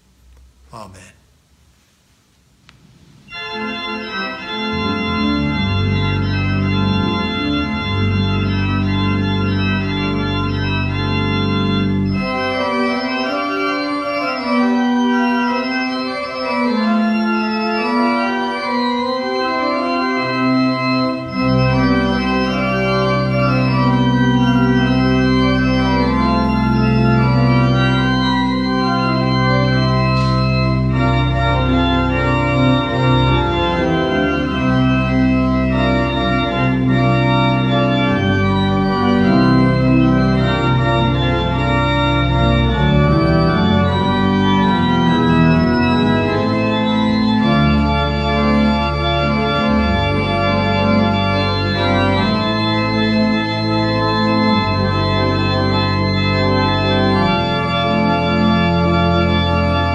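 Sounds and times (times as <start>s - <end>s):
pipe organ sustained chords: 3.0s - 59.9s
deep organ pedal bass notes: 3.3s - 59.9s.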